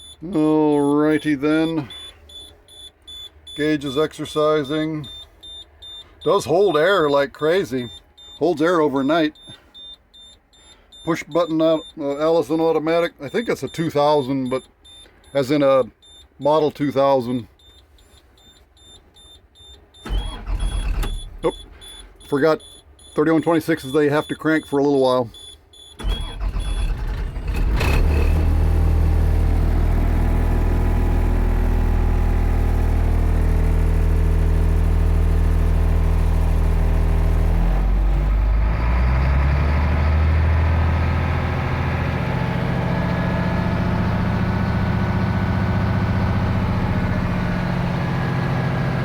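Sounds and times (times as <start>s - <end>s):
diesel engine cranking and idling: 0.0s - 49.0s.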